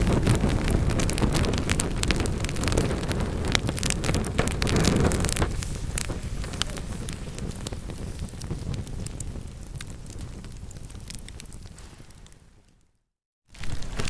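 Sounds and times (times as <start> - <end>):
low rumble of flame: 0.0 - 12.8
wood fire crackling: 0.0 - 14.0.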